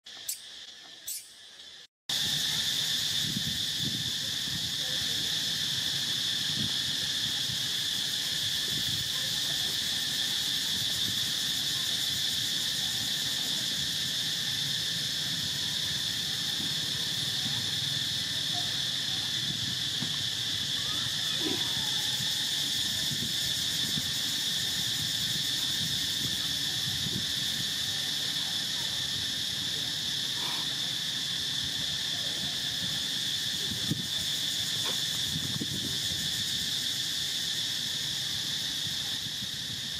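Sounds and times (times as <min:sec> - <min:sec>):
insect chorus droning: 0:00.1 - 0:39.9.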